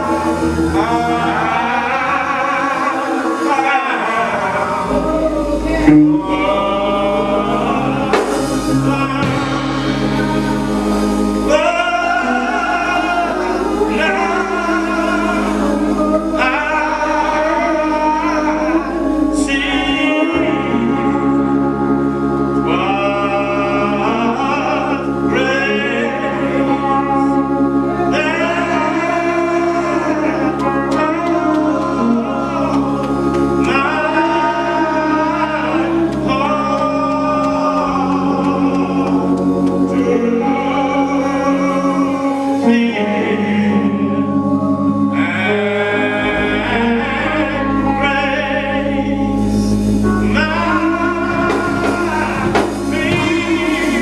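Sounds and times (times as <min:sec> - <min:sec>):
held low chords: 0:00.0 - 0:54.0
man singing into microphone: 0:00.0 - 0:54.0.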